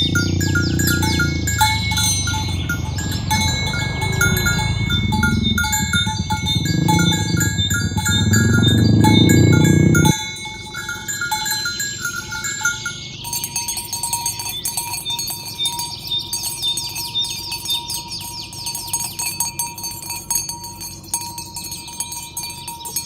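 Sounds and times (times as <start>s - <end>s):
cowbells clinking and jangling: 0.0s - 23.0s
high chirping: 0.0s - 23.0s.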